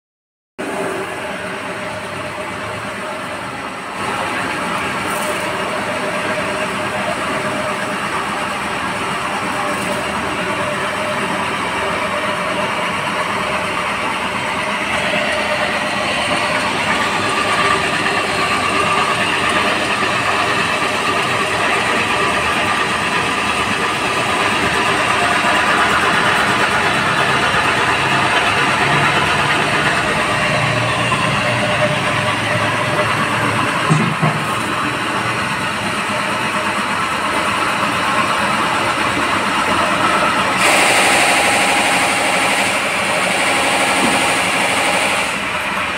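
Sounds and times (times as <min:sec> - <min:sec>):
wet grinder motor grinding batter: 0:04.0 - 0:45.9.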